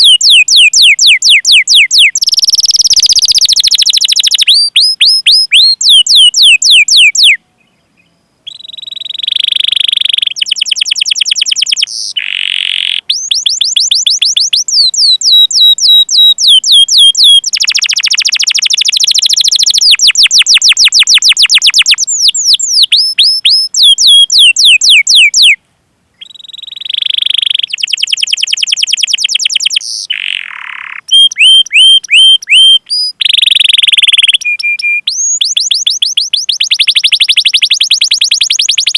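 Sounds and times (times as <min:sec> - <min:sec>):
canary singing: 0:00.0 - 0:25.6, 0:26.2 - 0:38.9.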